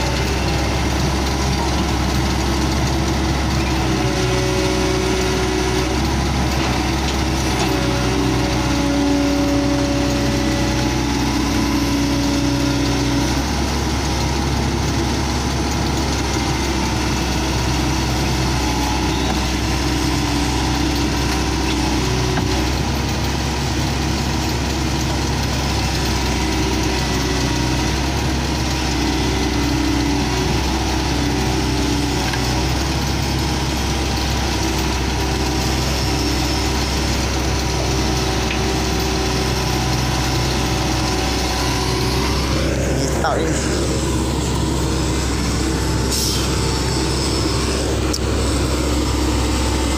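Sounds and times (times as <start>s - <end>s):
excavator diesel engine droning: 0.0s - 49.9s.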